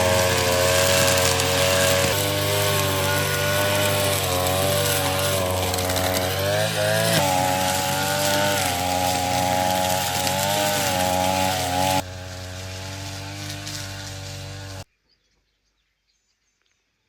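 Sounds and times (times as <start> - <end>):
small engine running: 0.0 - 14.8.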